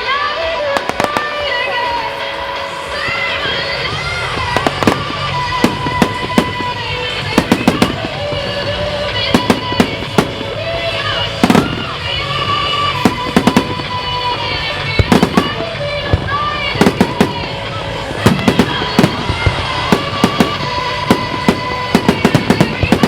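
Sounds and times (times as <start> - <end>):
music playing: 0.0 - 23.0
fireworks bangs: 0.4 - 23.0.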